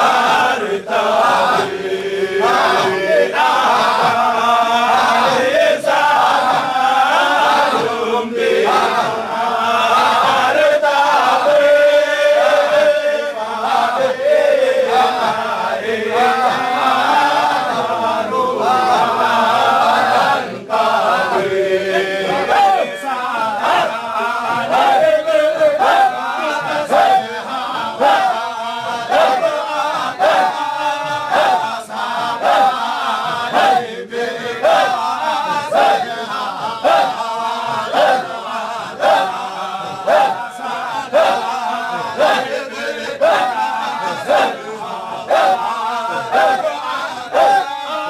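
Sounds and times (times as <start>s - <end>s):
men chanting in unison: 0.0s - 48.0s.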